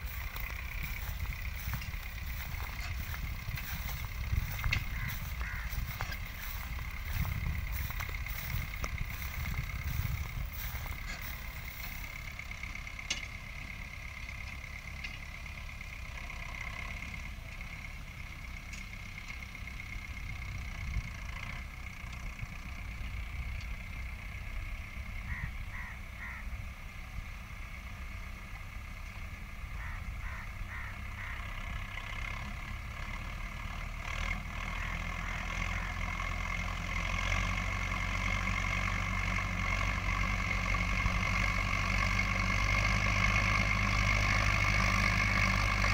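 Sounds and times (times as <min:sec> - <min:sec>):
distant tractor diesel engine: 0:00.0 - 0:45.9.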